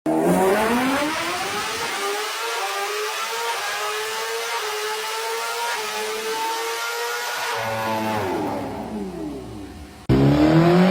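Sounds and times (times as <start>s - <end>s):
motorcycle engine revving: 0.1s - 10.9s.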